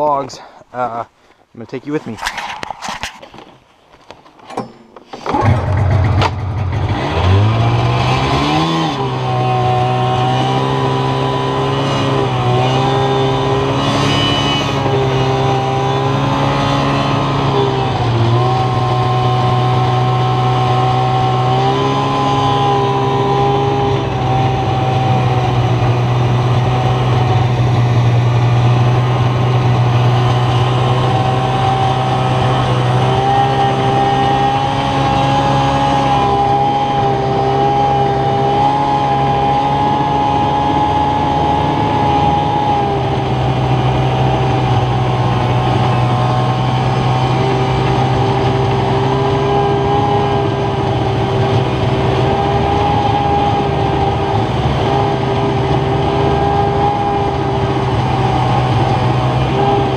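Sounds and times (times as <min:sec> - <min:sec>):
snowmobile engine revving: 0:05.1 - 0:59.9.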